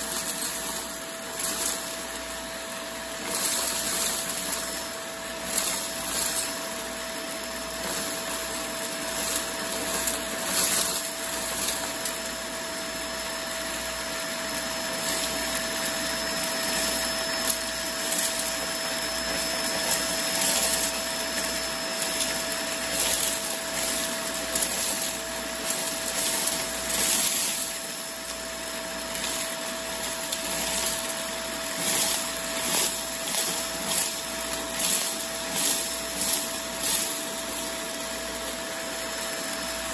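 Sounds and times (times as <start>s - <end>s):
debris rattling through hose: 0.0s - 39.9s
vacuum cleaner whining: 0.0s - 39.9s.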